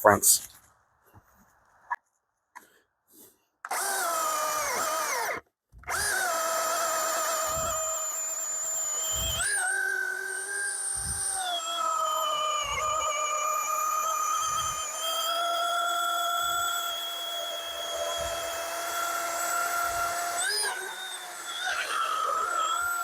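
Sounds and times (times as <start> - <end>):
battery chainsaw whining: 3.7 - 23.0.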